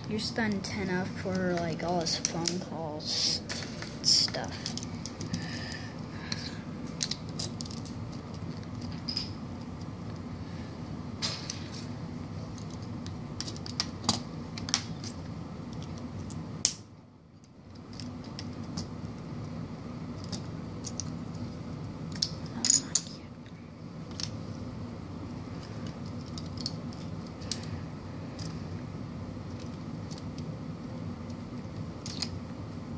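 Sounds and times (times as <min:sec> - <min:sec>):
low background hum: 0:00.0 - 0:32.9.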